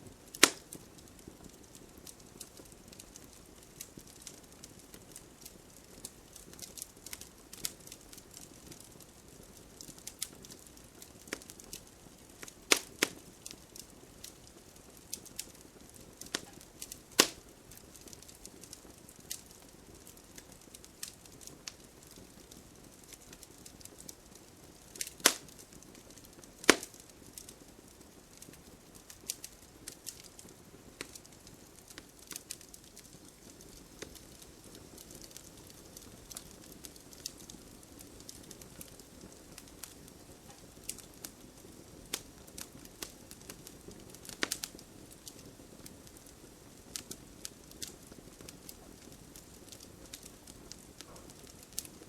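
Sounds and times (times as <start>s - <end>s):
campfire crackling: 0.0s - 52.0s
low steady hiss: 0.0s - 52.0s.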